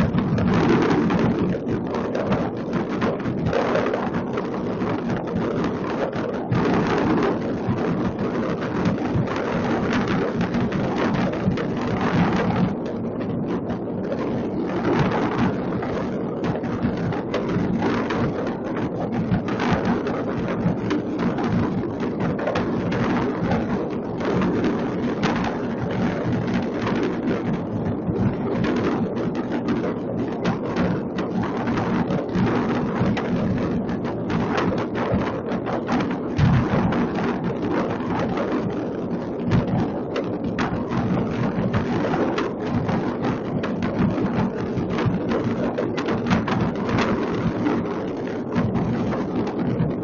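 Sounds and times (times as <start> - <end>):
distant fireworks crackling and booming: 0.0 - 50.0.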